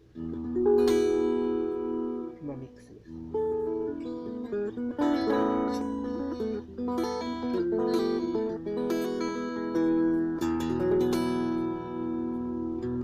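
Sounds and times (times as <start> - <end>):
electric guitar notes and chords: 0.0 - 13.0.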